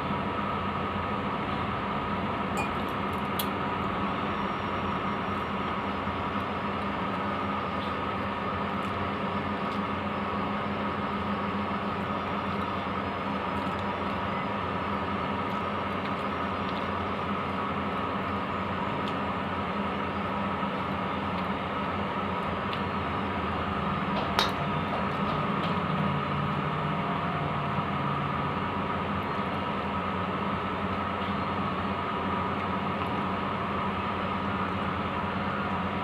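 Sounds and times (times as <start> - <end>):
mechanical hum and hiss: 0.0 - 36.0.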